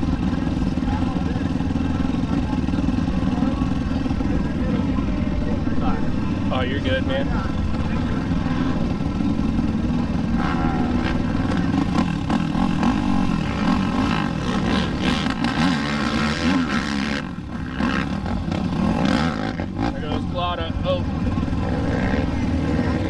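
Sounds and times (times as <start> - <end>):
quad engines revving: 0.0 - 23.0.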